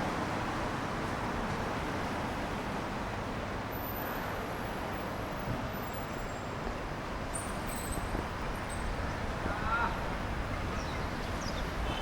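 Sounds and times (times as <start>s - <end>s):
vehicles passing on wet road: 0.0s - 12.0s.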